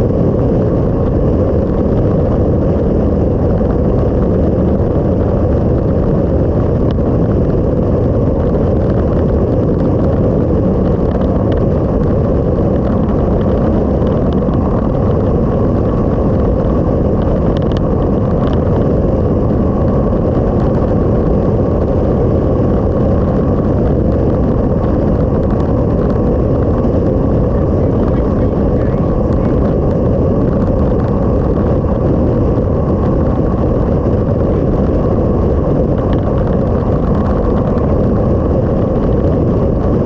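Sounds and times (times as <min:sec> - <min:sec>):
motorcycle engine roaring: 0:00.0 - 0:40.0
wind roar: 0:00.0 - 0:40.0.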